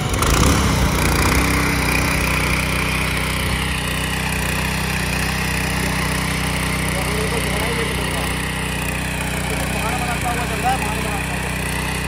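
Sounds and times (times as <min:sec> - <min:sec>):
power tiller engine running: 0:00.0 - 0:12.0
tines churning through dry soil: 0:00.0 - 0:12.0.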